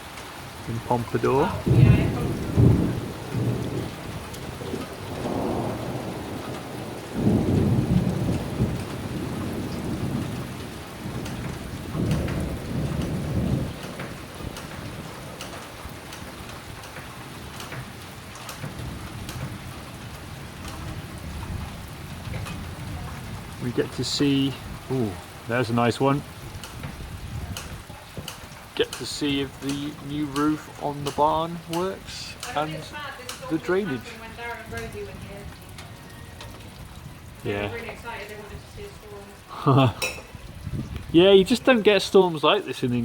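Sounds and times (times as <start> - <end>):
heavy rain: 0.0 - 43.0
thunder rumbling: 0.0 - 43.0
water drips ticking: 0.0 - 43.0.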